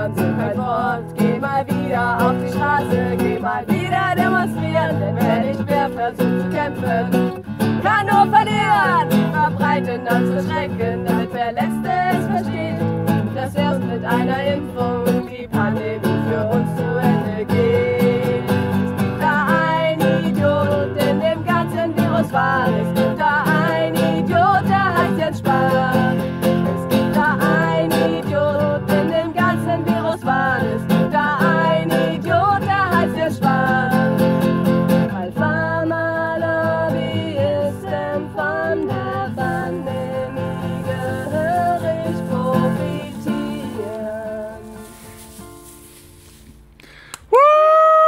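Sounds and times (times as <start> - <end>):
women singing: 0.0 - 45.4
strummed acoustic guitar: 0.0 - 46.8.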